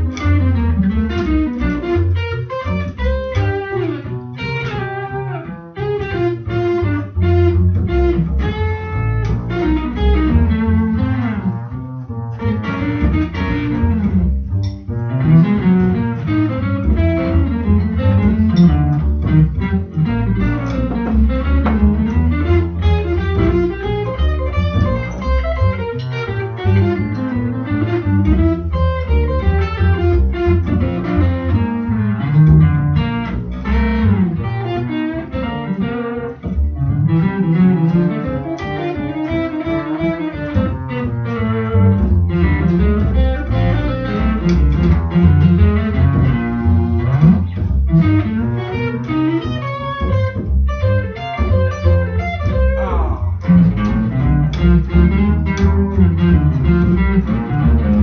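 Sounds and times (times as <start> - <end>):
electric guitar line: 0.0 - 58.0
plucked double bass: 0.0 - 58.0.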